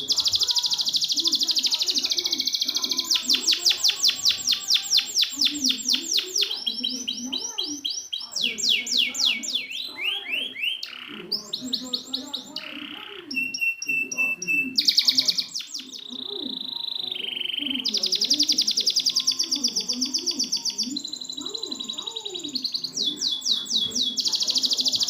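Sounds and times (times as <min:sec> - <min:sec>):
canary singing trills: 0:00.0 - 0:25.0.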